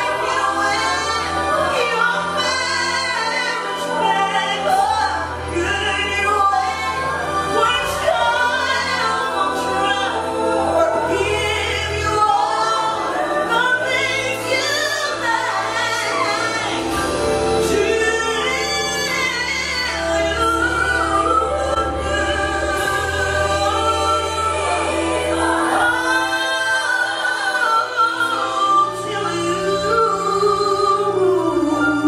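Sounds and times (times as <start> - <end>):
women singing gospel in harmony: 0.0 - 32.0.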